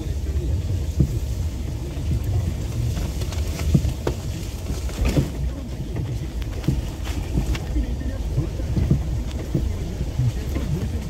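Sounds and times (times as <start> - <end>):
vehicle rumbling on rough track: 0.0 - 11.0.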